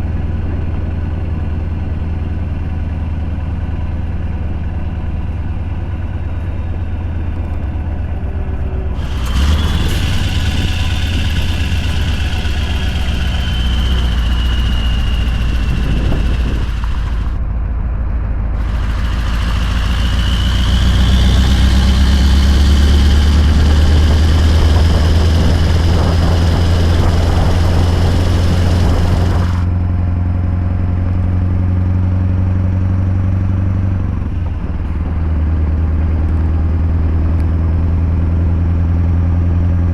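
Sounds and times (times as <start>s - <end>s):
loud truck exhaust note: 0.0s - 39.9s
truck engine droning: 0.0s - 39.9s.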